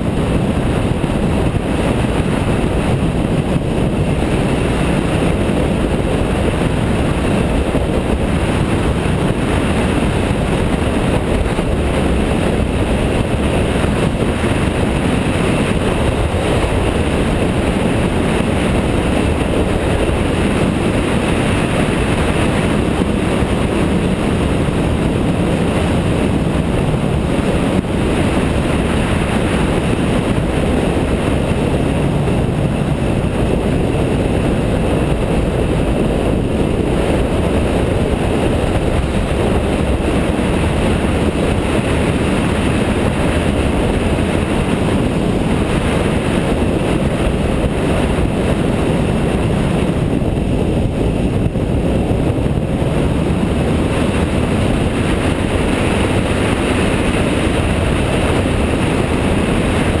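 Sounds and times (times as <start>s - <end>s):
wind and road rush: 0.0s - 60.0s.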